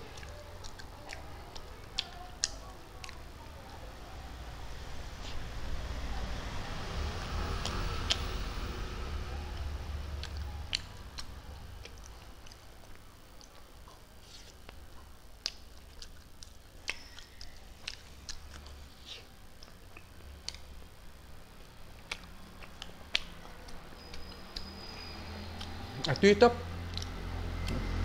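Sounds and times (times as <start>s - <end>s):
chewing with lip smacks: 0.0s - 3.8s, 6.3s - 28.0s
low steady hum: 0.0s - 28.0s.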